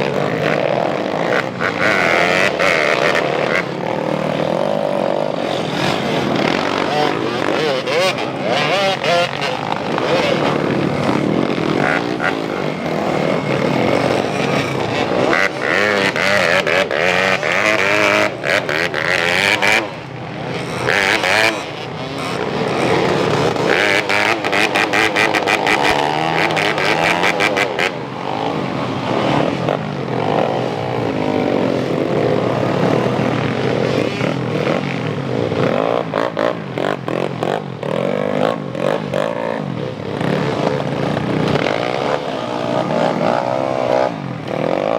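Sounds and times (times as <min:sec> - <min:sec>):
motocross bike engines revving: 0:00.0 - 0:44.9.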